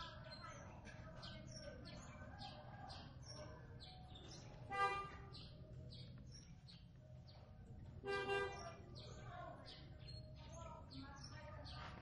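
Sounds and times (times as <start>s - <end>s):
small bird chirping: 0.0s - 4.7s, 5.3s - 12.0s.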